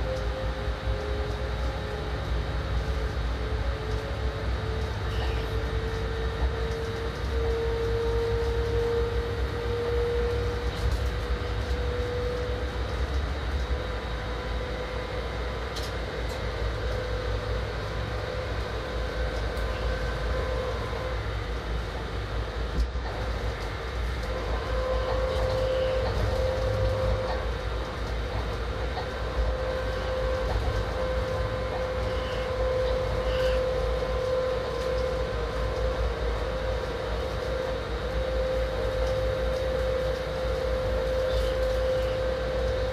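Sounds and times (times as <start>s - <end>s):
train running rumble: 0.0s - 42.9s
train whine: 0.0s - 42.9s.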